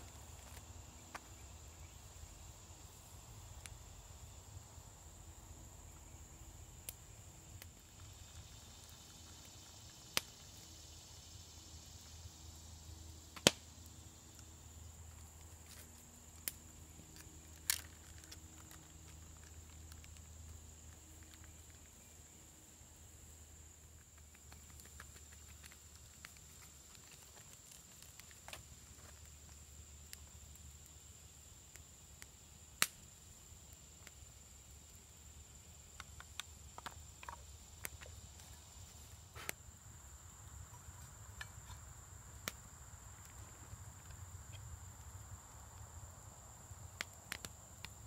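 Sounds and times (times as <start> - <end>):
insects buzzing: 0.0 - 48.0.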